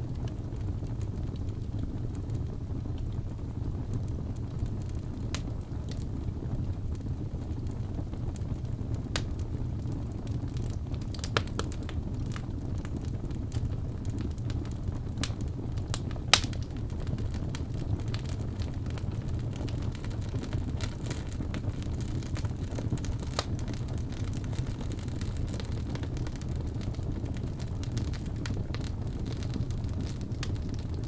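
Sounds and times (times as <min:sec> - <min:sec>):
fire crackling and popping: 0:00.0 - 0:31.0
fire rumbling: 0:00.0 - 0:31.0.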